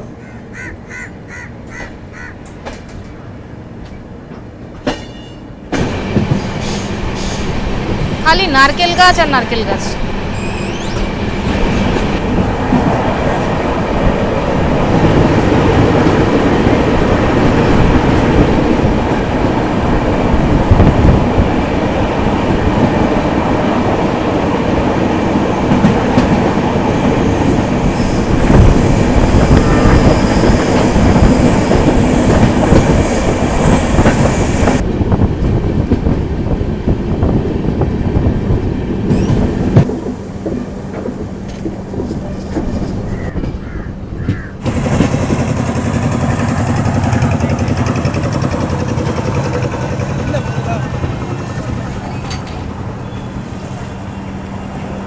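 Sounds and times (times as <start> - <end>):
train coach rumbling and rattling: 0.0 - 55.0.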